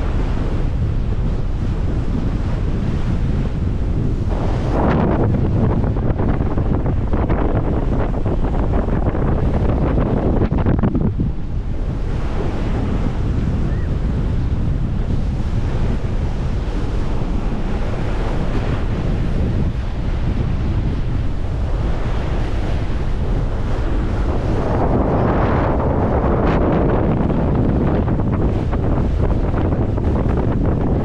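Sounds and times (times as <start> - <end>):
water rushing: 0.0 - 31.0
wind buffeting microphone: 0.0 - 31.0.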